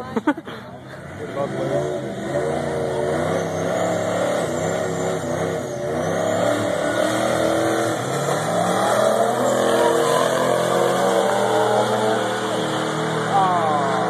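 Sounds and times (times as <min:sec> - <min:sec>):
cars accelerating at high revs: 0:00.8 - 0:14.0.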